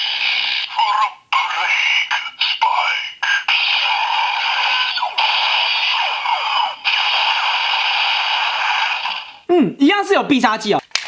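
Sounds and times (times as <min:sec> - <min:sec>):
toy electronic sound effect: 0:00.0 - 0:09.5.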